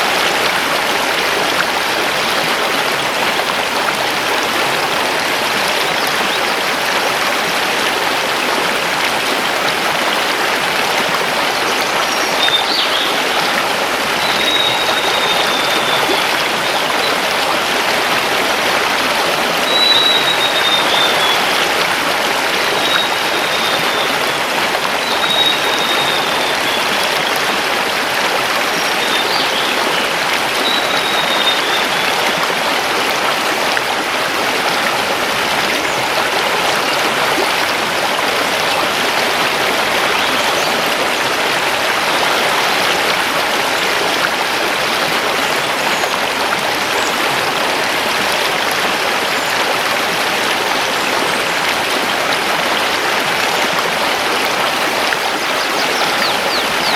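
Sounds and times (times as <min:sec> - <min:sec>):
river rushing over stones: 0:00.0 - 0:56.9.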